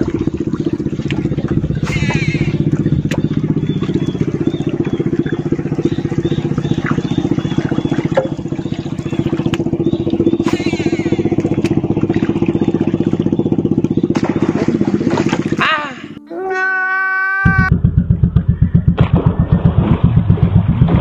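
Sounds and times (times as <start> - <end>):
small boat engine puttering: 0.0 - 16.3, 17.5 - 21.0.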